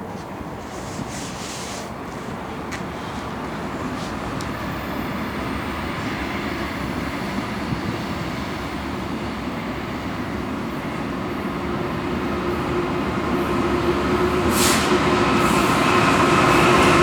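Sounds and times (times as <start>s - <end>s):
freight train rumbling by: 0.0s - 17.0s.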